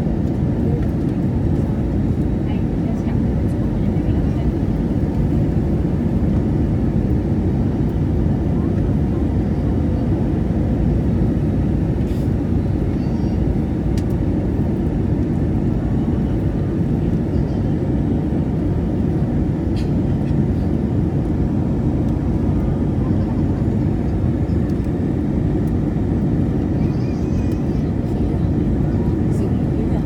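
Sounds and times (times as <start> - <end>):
jet engine roar in cabin: 0.0 - 30.0.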